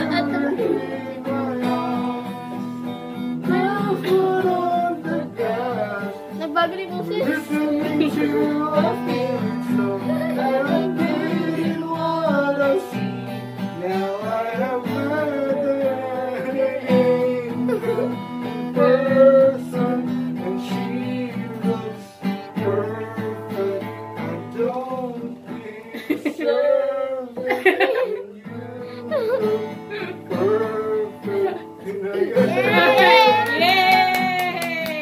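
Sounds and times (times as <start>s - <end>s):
acoustic guitar strumming: 0.0s - 35.0s
person singing: 0.0s - 35.0s.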